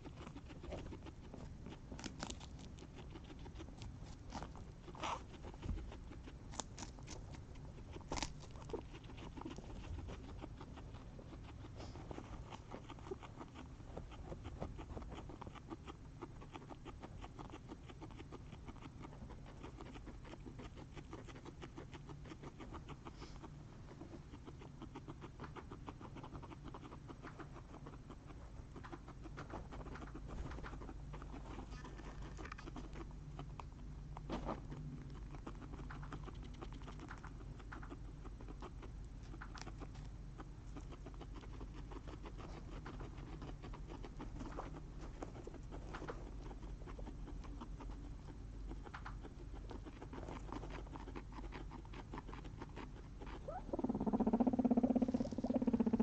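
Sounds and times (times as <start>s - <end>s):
guinea pigs nibbling: 0.0s - 56.0s
steady low hum: 0.0s - 56.0s.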